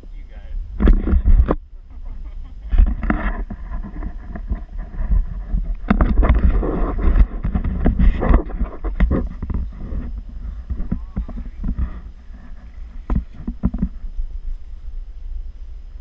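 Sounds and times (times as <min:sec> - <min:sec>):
wind rumble on microphone: 0:00.0 - 0:16.0
leaves brushing against camera: 0:00.8 - 0:15.0.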